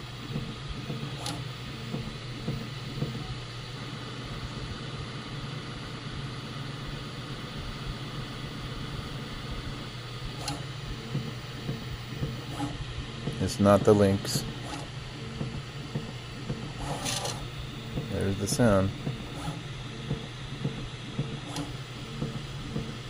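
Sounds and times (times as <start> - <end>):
printer fans humming: 0.0 - 23.0.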